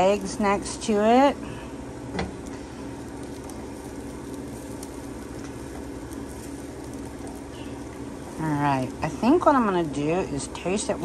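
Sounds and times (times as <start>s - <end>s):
food crackling on stove: 0.0s - 11.0s
kitchen hum and hiss: 0.0s - 11.0s.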